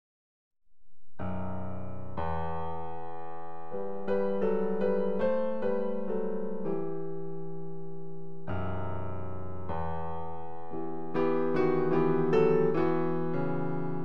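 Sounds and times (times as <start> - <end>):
solo piano chords and notes: 1.2 - 14.0.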